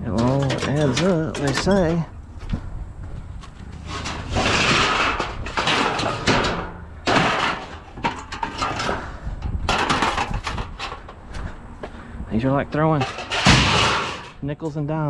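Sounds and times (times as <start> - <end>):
metal knocks and clanks: 0.0 - 2.6, 3.4 - 11.5, 12.8 - 14.5
scrap metal rustling and scraping: 0.0 - 12.1, 12.7 - 14.8.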